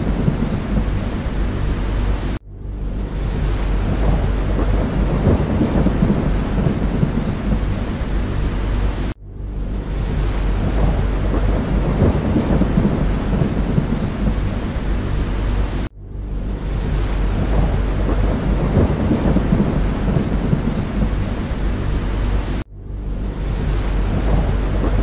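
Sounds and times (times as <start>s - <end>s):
aircraft rumble: 0.0s - 25.0s
rain: 0.0s - 25.0s.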